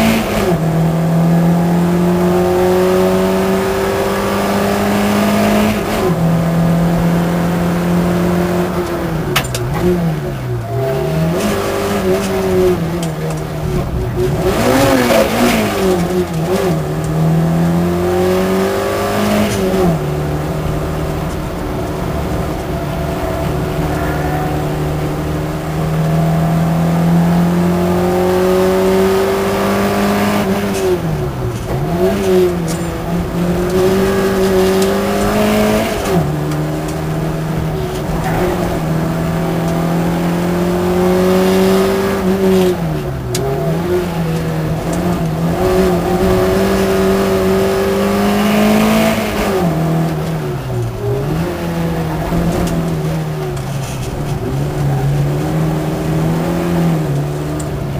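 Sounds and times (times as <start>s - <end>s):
race car engine revving: 0.0s - 57.9s
road and wind noise: 0.0s - 57.9s.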